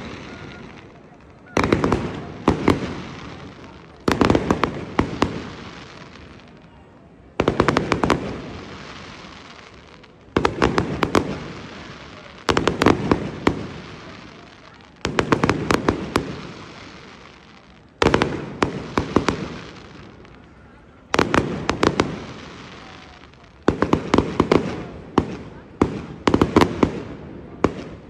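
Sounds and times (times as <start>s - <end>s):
firework bangs: 0.0s - 28.0s
firework crackling pops: 0.0s - 28.0s.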